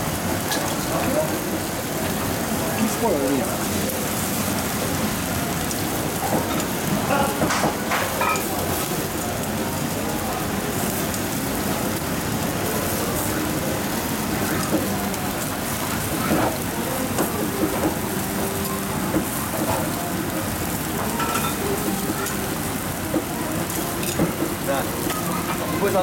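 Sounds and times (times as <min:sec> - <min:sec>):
meat sizzling over charcoal: 0:00.0 - 0:26.0.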